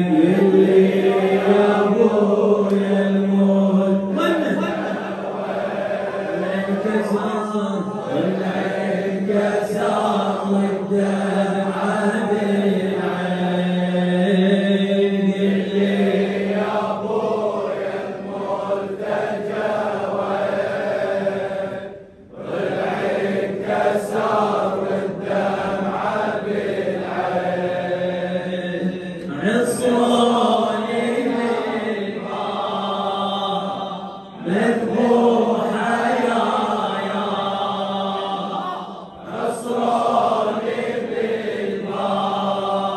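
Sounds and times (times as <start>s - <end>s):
crowd of men chanting: 0.0s - 42.9s
man chanting through a microphone: 0.0s - 42.9s.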